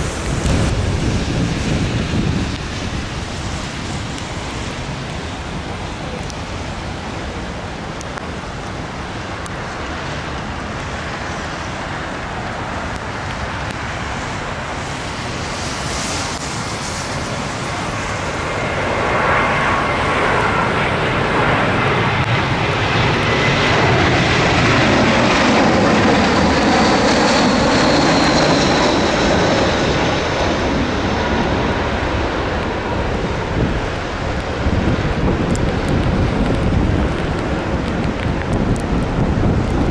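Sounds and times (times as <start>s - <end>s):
jet airliner engine noise: 0.0s - 39.9s
jet engine whine: 0.0s - 39.9s
wind noise: 0.0s - 39.9s.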